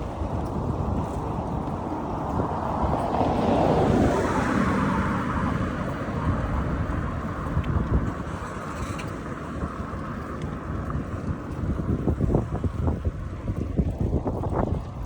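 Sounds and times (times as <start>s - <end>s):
wind rumbling over microphone: 0.0s - 15.0s.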